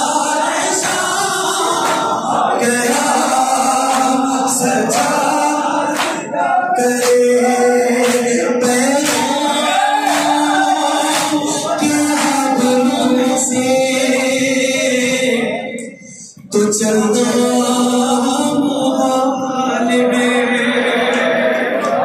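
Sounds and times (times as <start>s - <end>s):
crowd of men singing: 0.0s - 22.0s
man singing into microphone: 0.0s - 22.0s.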